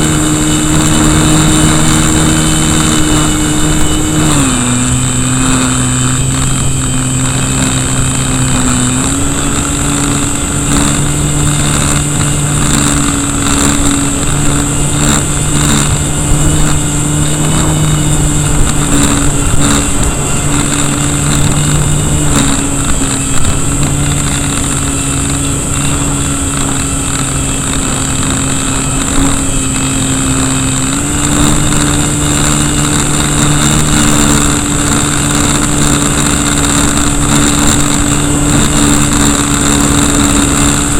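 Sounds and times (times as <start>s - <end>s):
electric motor and propeller drone: 0.0s - 40.9s
wind buffeting microphone: 0.0s - 40.9s.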